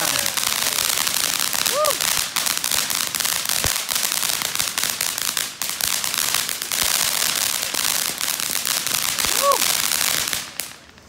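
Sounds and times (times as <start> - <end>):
firework hiss: 0.0 - 11.0
fountain firework crackling: 0.0 - 11.0.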